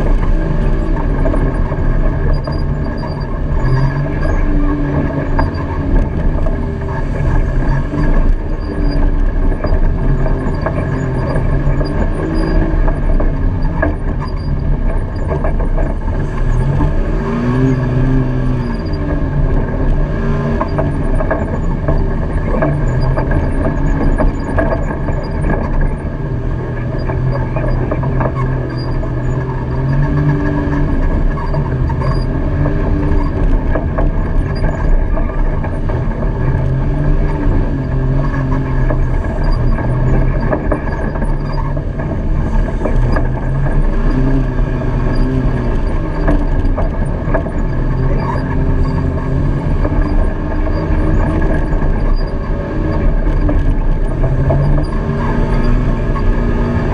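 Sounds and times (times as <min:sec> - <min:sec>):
off-road vehicle engine running: 0:00.0 - 0:56.9
vehicle rattles and knocks: 0:00.0 - 0:56.9.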